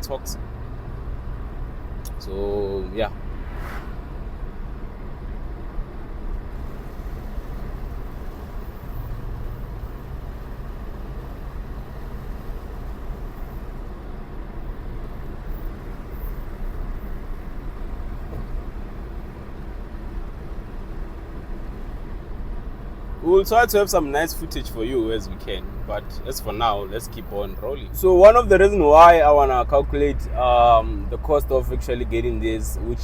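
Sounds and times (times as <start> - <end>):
pickup engine rumble: 0.0 - 33.0
road noise: 0.0 - 33.0.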